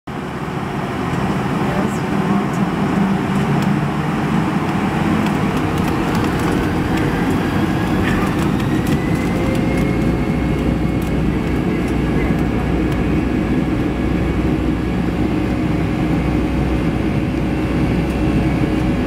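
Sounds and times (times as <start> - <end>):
jet engine cabin rumble: 0.1 - 19.0
jet engine whine rising: 0.1 - 19.0.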